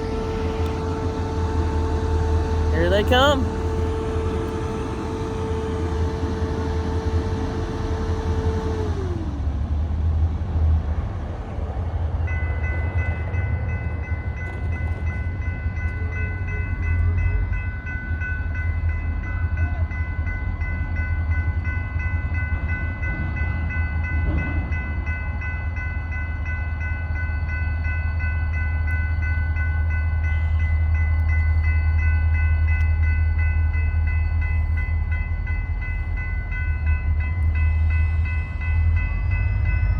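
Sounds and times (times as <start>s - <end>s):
diesel locomotive rumble: 0.0s - 39.9s.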